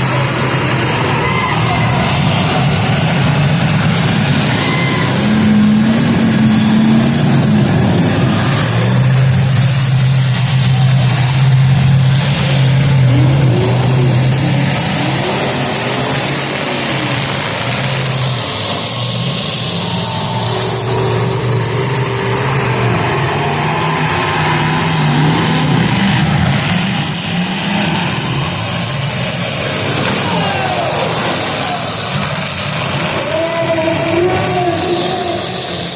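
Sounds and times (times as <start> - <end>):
car engines revving: 0.0 - 35.9.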